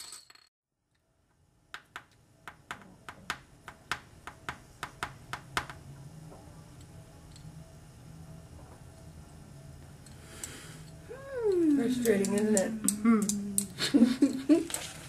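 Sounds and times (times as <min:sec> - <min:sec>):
faint low hum: 0:00.9 - 0:15.0.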